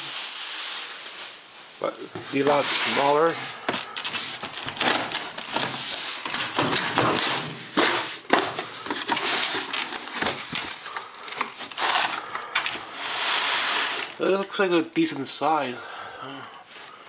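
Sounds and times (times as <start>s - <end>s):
cardboard and packing rustling: 0.0s - 14.7s.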